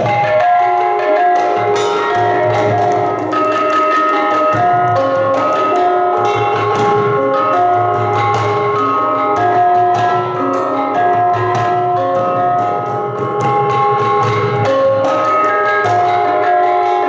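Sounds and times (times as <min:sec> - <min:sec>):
hand drum strokes: 0:00.0 - 0:17.0.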